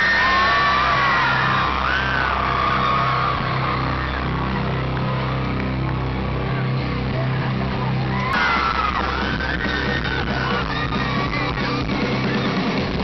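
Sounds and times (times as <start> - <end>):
fans yelling and whooping: 0.0 - 13.0
live band playing loudly: 0.0 - 13.0.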